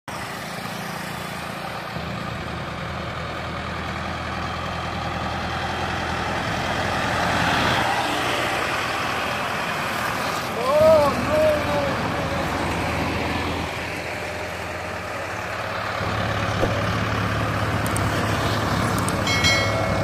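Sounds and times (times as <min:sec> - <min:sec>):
tractor diesel engines under load: 0:00.0 - 0:20.0
tyre and road noise: 0:00.1 - 0:20.0.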